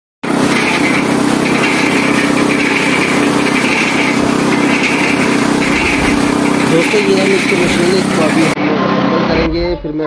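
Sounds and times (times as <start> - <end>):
small petrol engine running: 0.2 - 8.6.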